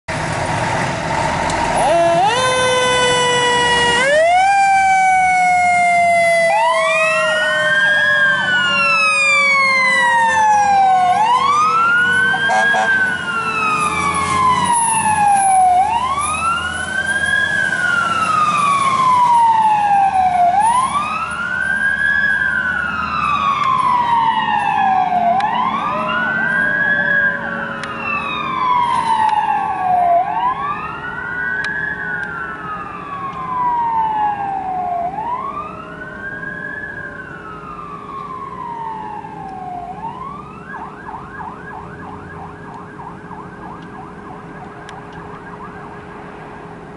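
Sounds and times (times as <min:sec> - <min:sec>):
emergency siren wailing: 0:01.2 - 0:46.9
siren yelping: 0:01.8 - 0:46.1.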